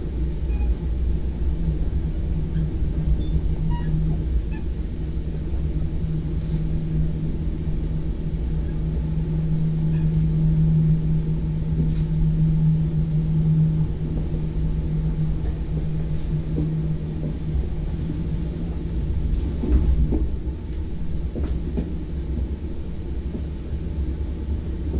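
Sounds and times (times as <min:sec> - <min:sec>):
constant low hum: 0:00.0 - 0:24.9
train rumble: 0:00.0 - 0:24.9.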